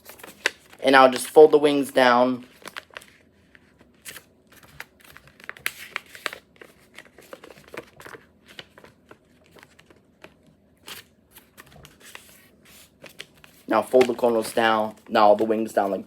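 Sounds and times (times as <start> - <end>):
paper crinkling and rustling: 0.0 - 1.8, 2.4 - 16.0.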